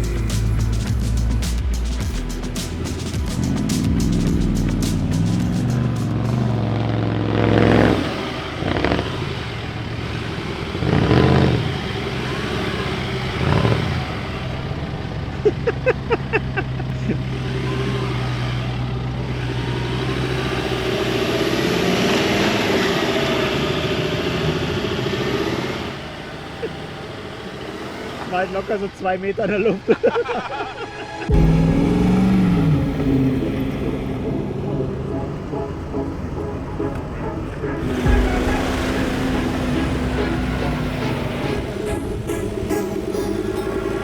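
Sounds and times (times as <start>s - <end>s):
off-road engines revving: 0.0s - 44.0s.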